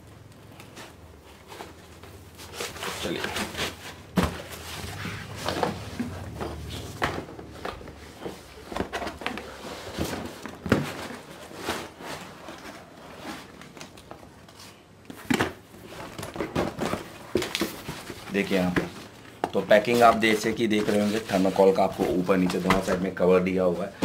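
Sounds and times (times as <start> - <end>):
cardboard and styrofoam packing handled: 0.5 - 24.0.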